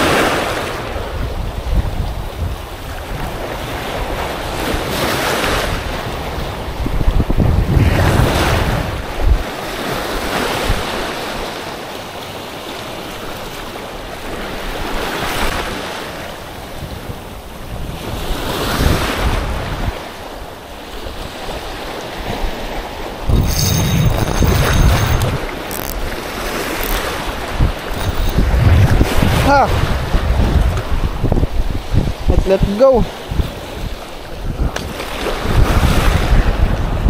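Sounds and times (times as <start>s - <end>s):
wind buffeting microphone: 0.0s - 11.4s, 16.6s - 37.0s
sea waves breaking on shore: 0.0s - 37.0s.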